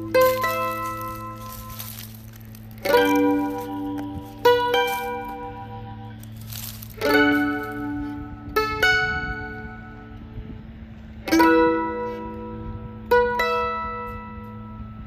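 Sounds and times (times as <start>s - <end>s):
plucked mandolin notes: 0.0s - 15.0s.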